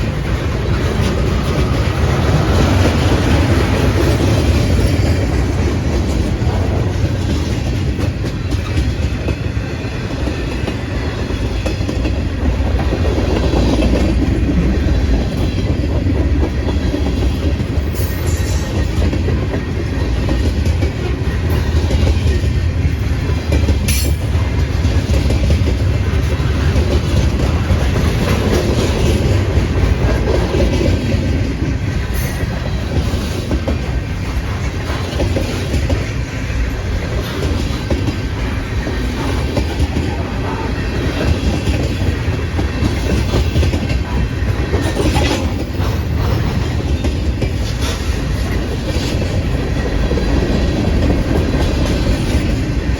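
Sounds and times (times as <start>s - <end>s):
train wheels clacking on rails: 0.0s - 52.9s.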